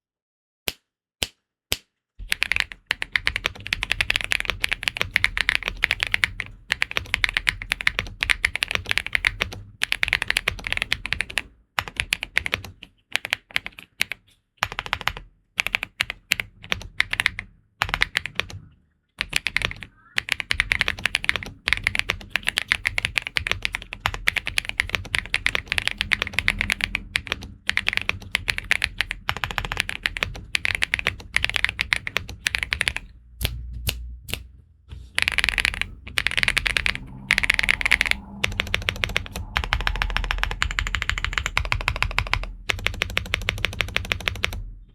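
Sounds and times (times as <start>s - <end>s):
mechanical keyboard typing: 2.2s - 33.6s, 35.2s - 44.6s.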